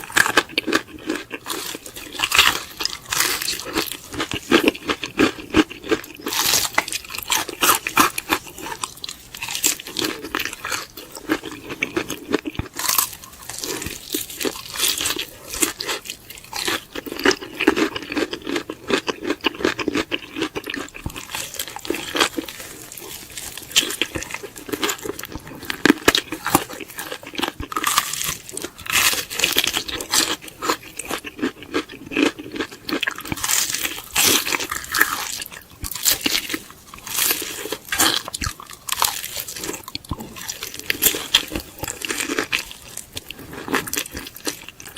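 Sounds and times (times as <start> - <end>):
chewing crispy fried chicken: 0.0 - 44.9.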